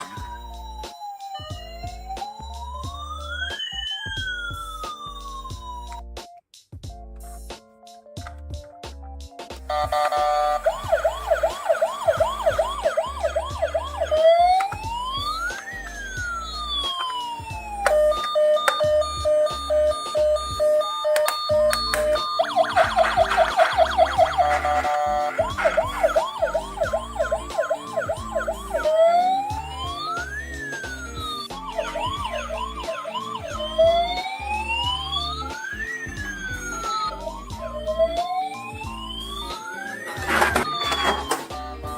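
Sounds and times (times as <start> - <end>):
ambulance siren yelp and wail: 0.0 - 6.0, 9.7 - 41.9
background music with bass line: 0.0 - 41.9.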